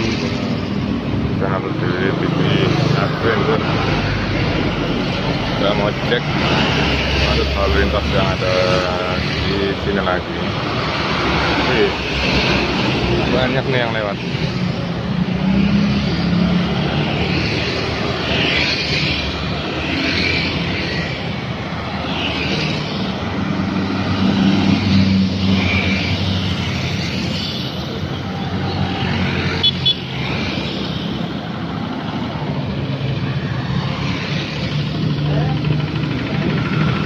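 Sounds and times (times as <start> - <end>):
motorbike engines passing: 0.0 - 37.0.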